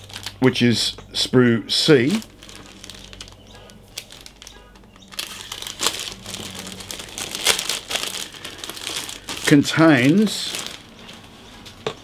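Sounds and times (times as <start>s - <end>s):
plastic bag crinkling: 0.0s - 0.7s, 1.9s - 11.8s.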